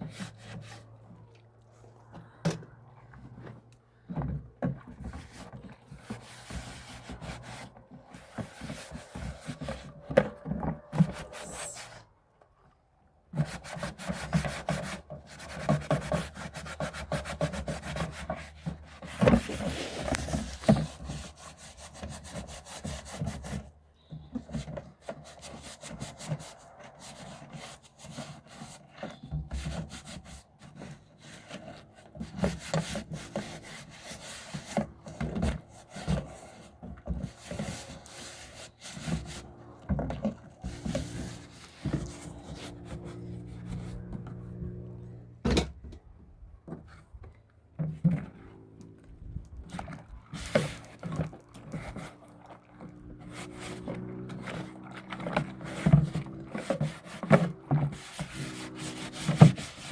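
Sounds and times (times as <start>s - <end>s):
scraping on a hard surface: 0.0s - 1.2s, 2.2s - 12.1s, 13.4s - 45.2s, 47.9s - 59.9s.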